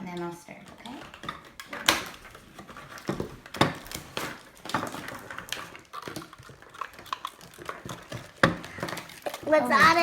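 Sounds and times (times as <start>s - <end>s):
toy parts clicking and knocking: 0.0s - 10.0s.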